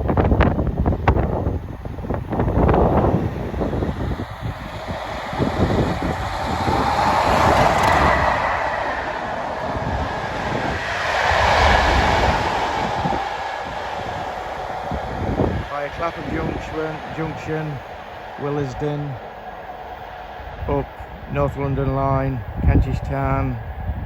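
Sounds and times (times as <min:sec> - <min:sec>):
train passing: 0:00.0 - 0:24.0
wind buffeting microphone: 0:00.0 - 0:24.0.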